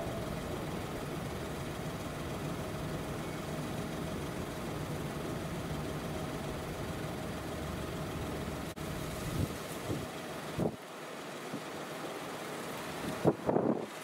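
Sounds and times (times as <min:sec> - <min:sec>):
faint steady hum: 0:00.0 - 0:14.0
low engine-like rumble: 0:00.0 - 0:14.0.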